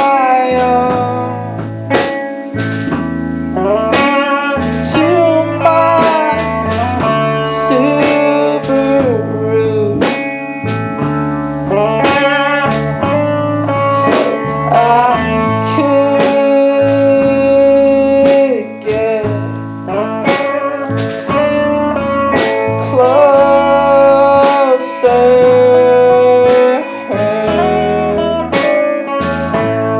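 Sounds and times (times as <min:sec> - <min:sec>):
bass: 0:00.0 - 0:29.9
drums keeping a steady beat: 0:00.0 - 0:29.9
slide guitar lead: 0:00.0 - 0:29.9.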